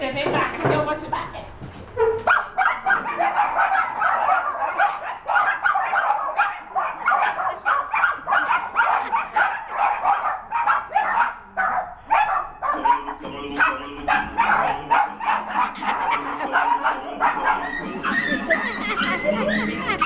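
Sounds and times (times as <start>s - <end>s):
dog barking rapidly: 2.2s - 20.0s.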